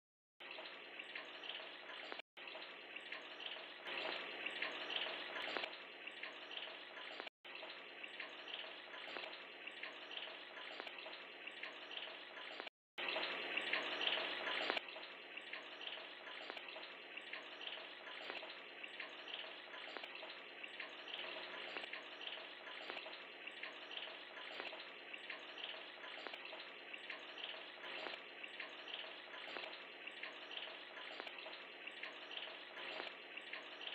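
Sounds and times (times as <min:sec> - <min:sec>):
aquarium water trickling: 0:00.4 - 0:33.9.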